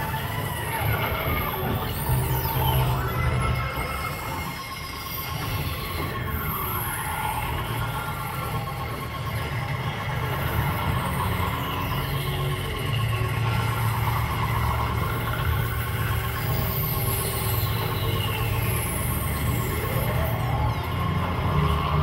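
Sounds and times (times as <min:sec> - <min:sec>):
low noise drone: 0:00.0 - 0:22.0
squealing whistling electronic tones: 0:00.0 - 0:22.0.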